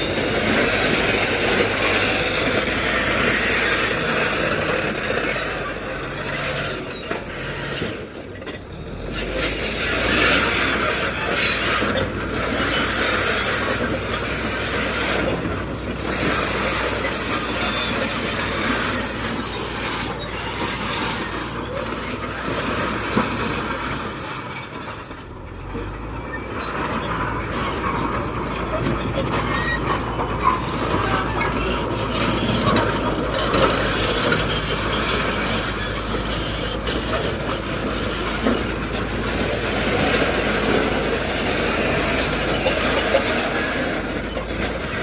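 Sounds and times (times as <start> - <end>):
diesel engine running: 0.0 - 45.0
loud grinding and scraping: 0.0 - 45.0.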